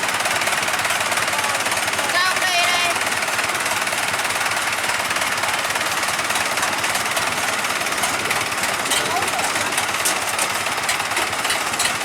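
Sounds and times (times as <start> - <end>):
diesel engine clattering: 0.0 - 12.0.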